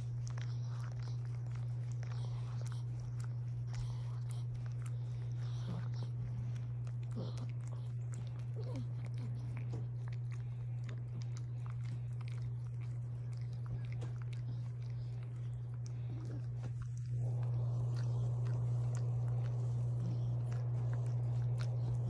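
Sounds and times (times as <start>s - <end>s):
dog licking wet smacks: 0.0s - 22.0s
low hum: 0.0s - 22.0s.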